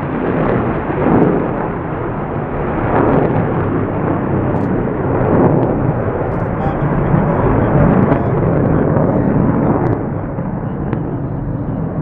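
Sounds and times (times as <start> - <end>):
jet afterburner roar: 0.0 - 12.0.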